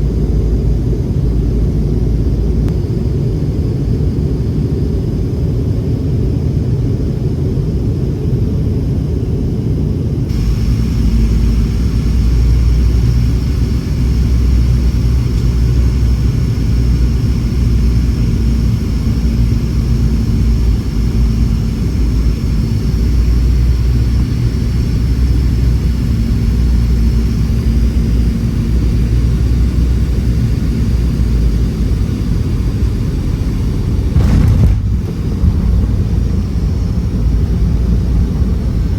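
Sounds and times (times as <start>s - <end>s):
airplane cabin engine rumble: 0.0s - 38.9s
high engine whine: 0.0s - 38.9s.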